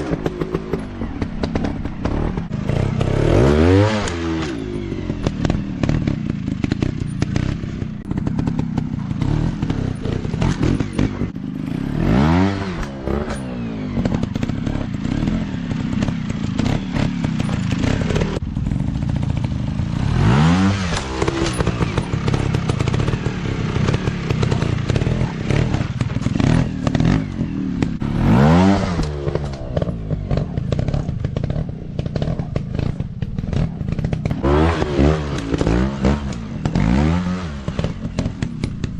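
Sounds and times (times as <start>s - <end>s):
bikes clattering and scraping: 0.0s - 38.9s
dirt bike engines revving: 0.0s - 38.9s.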